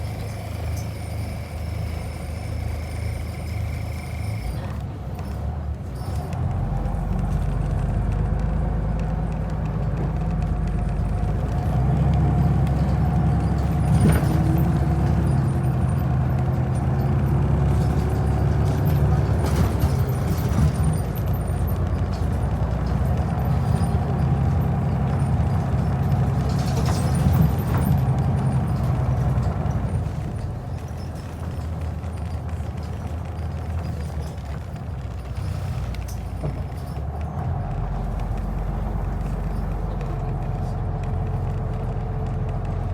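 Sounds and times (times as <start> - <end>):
vehicle engine rumble: 0.0 - 42.9.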